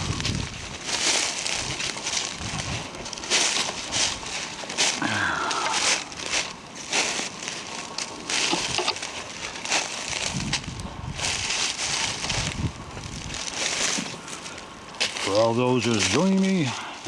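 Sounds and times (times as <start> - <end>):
footsteps crunching through undergrowth: 0.0 - 17.0.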